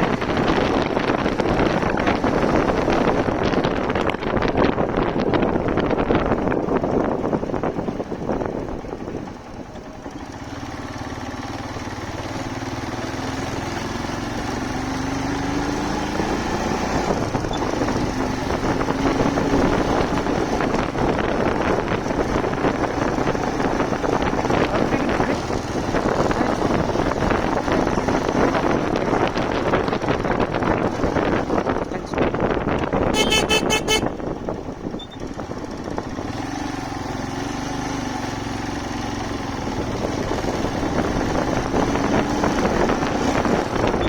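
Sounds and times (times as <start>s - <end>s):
motorcycle engine accelerating: 0.0s - 44.0s
wind rushing over microphone: 0.0s - 44.0s.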